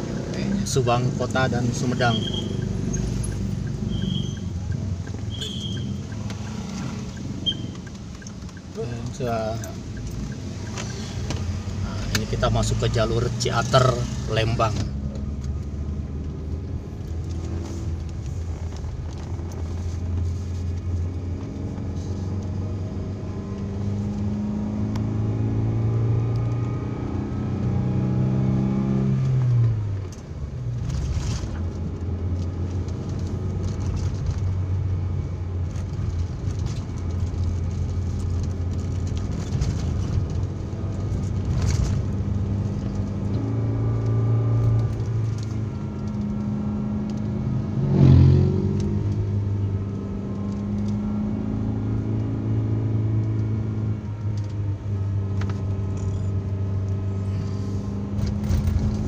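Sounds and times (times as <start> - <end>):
car engine accelerating: 0.0 - 59.0
road noise inside car: 0.0 - 59.0.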